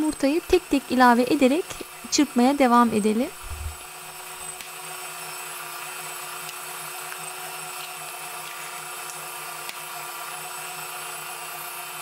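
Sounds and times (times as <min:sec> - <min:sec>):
stand mixer motor whining: 0:00.0 - 0:12.0.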